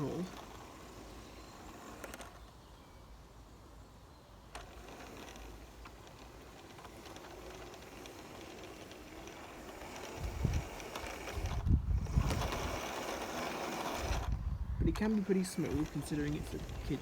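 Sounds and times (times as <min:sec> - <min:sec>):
wheels clicking on track: 0:00.0 - 0:02.5, 0:04.5 - 0:17.0
toy train motor hum: 0:00.0 - 0:02.6, 0:04.5 - 0:17.0.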